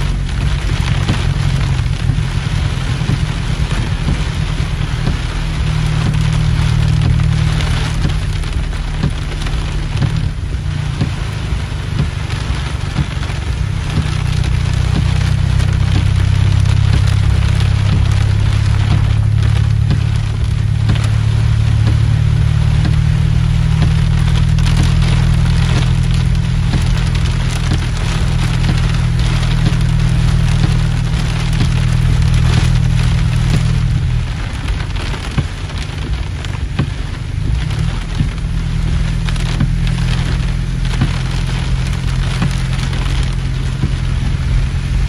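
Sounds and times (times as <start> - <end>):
heavy rain on car windshield: 0.0 - 45.0.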